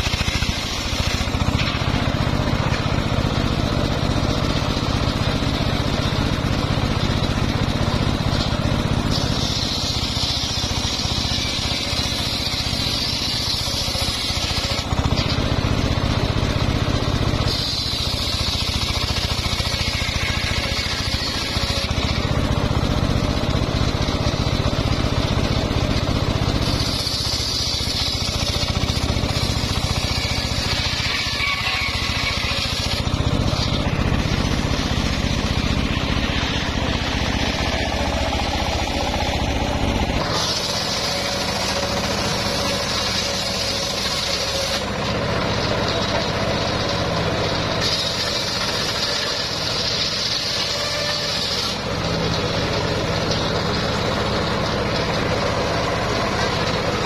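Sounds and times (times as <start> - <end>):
saw blade cutting wood: 0.0 - 57.0
saw motor drone: 0.0 - 57.0.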